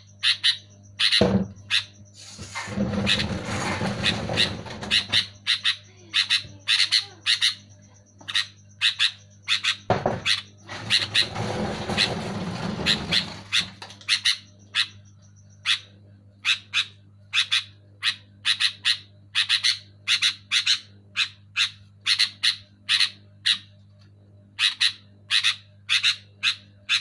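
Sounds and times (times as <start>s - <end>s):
bulbul calling: 0.0s - 11.3s, 12.9s - 23.7s.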